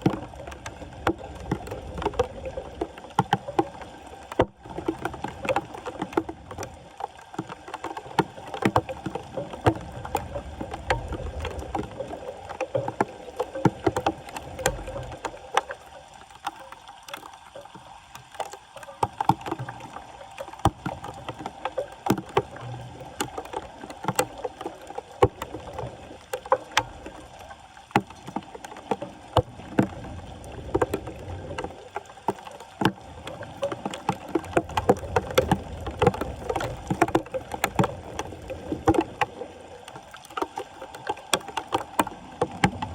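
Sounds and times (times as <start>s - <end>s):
floodwater splashing: 0.0s - 42.9s.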